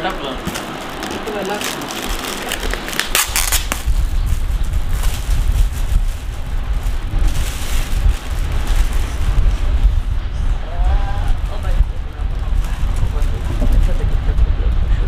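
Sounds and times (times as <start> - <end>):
foil wrapping crinkling and tearing: 0.0 - 10.1, 10.7 - 14.2
steady low rumble: 0.0 - 15.0.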